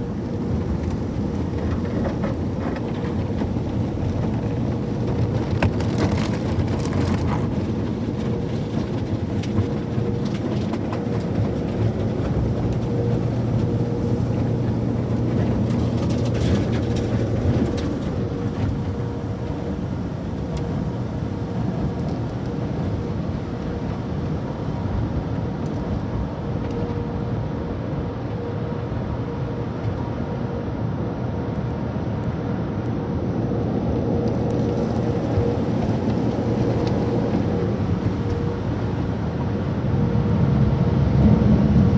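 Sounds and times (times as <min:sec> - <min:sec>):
machinery hum: 0:00.0 - 0:41.9.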